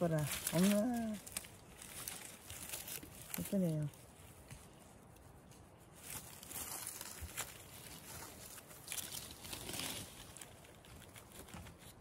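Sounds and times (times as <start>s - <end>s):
hands rustling in moss: 0.0s - 12.0s.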